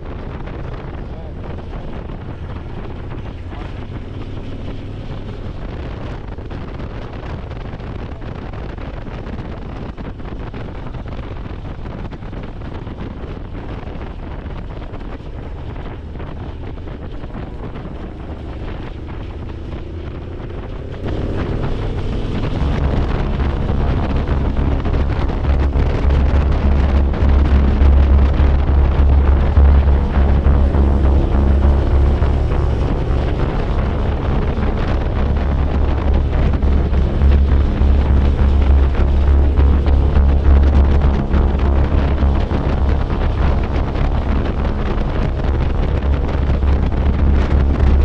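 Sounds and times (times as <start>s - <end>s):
deep steady bass: 0.0s - 48.0s
motorcycle engine running: 0.0s - 48.0s
wind rushing over microphone: 0.0s - 48.0s.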